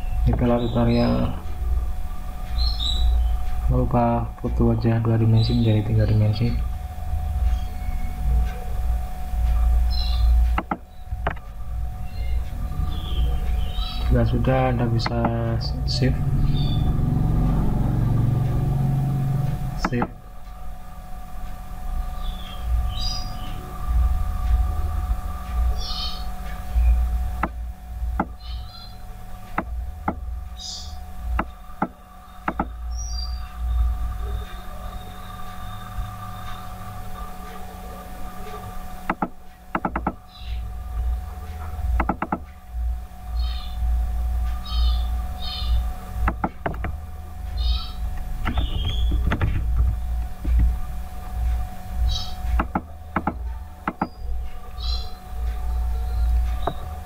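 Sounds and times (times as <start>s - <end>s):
steady low hum: 0.0s - 57.0s
steady low rumble: 0.0s - 57.0s.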